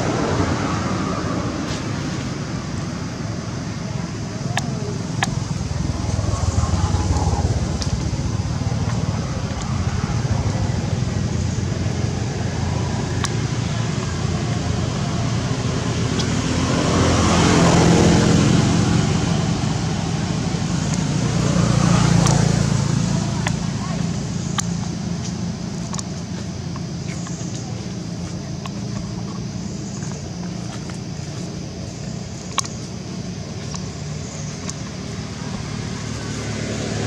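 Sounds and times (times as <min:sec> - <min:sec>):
traffic rumble: 0:00.0 - 0:37.0
vehicle engine passing: 0:00.0 - 0:37.0.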